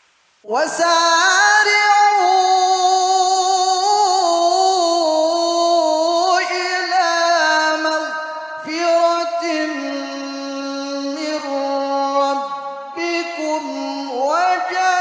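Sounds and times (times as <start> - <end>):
man reciting melodic chant: 0.4 - 15.0.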